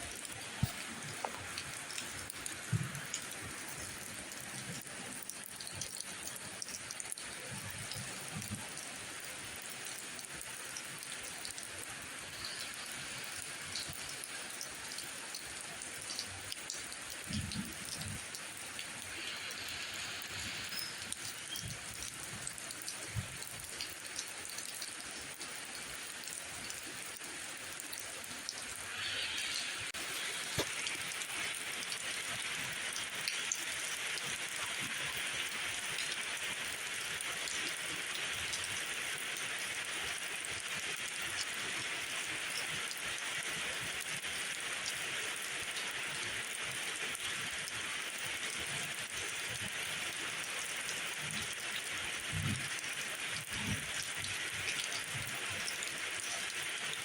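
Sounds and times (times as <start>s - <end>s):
sharp raindrop ticks: 0.0s - 57.0s
steady rain hissing: 0.0s - 57.0s.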